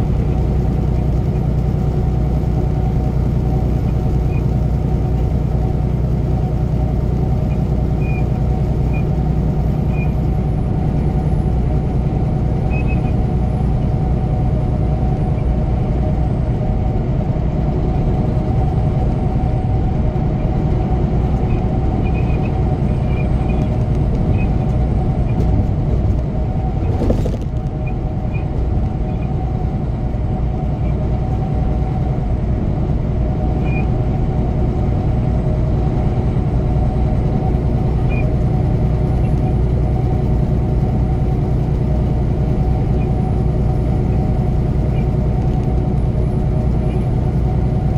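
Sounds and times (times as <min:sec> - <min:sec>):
road noise: 0:00.0 - 0:47.9
truck engine drone: 0:00.0 - 0:47.9.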